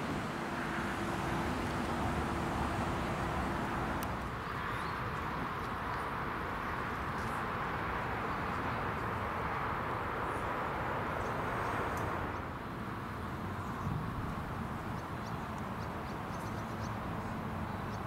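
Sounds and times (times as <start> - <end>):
outdoor background rush: 0.0 - 18.0.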